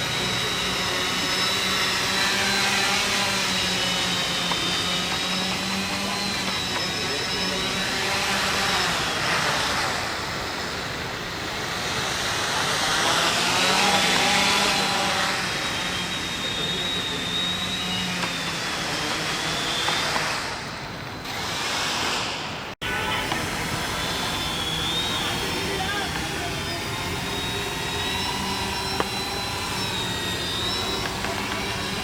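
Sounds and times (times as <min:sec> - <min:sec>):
drone propellers whirring: 0:00.0 - 0:32.0.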